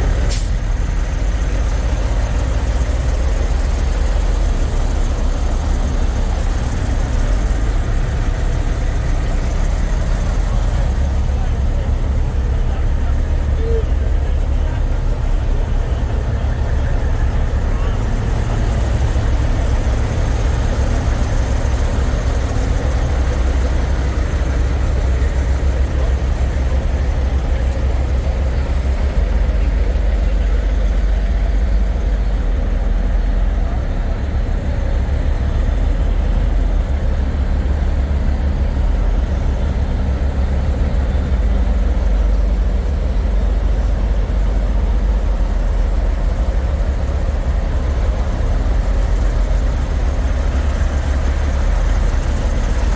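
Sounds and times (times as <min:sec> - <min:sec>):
diesel truck engines idling: 0:00.0 - 0:52.9.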